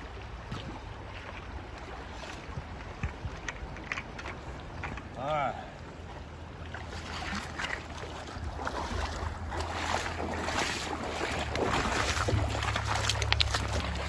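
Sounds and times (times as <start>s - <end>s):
wind rumbling on microphone: 0.0s - 5.2s, 5.8s - 14.0s
water splashing in a creek: 0.0s - 14.0s.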